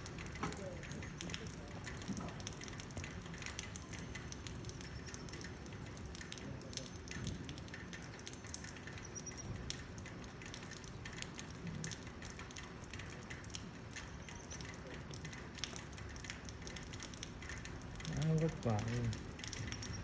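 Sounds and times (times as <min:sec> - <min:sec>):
drops pattering close by: 0:00.0 - 0:20.0
rain falling: 0:00.0 - 0:20.0.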